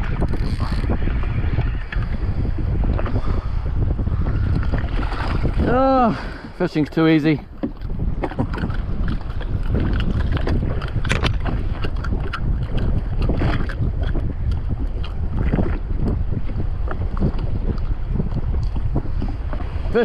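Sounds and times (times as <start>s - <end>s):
water splashing against jet ski: 0.0s - 20.0s
wind buffeting microphone: 0.0s - 20.0s.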